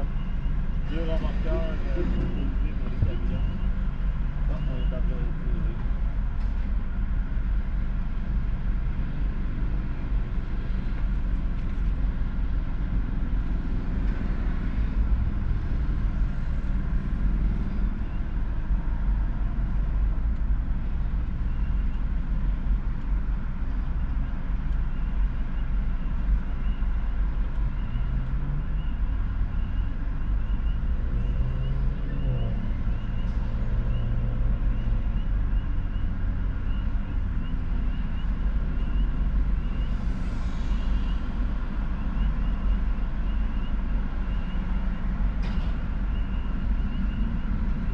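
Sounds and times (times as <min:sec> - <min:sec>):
traffic rumble: 0:00.0 - 0:47.9.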